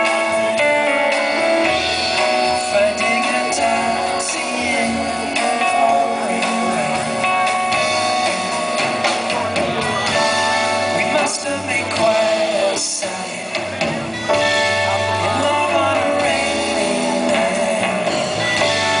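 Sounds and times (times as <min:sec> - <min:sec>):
smooth jazz band playing: 0:00.0 - 0:19.0.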